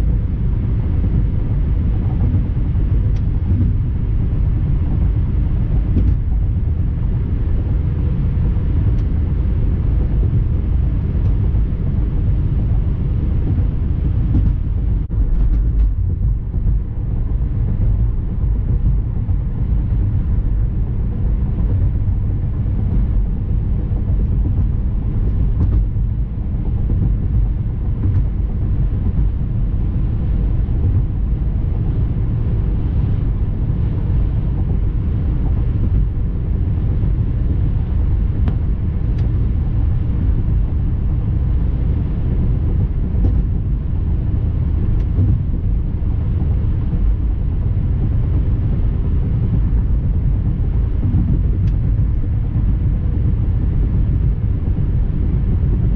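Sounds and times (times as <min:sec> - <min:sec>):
vehicle road and engine rumble: 0:00.0 - 0:55.9.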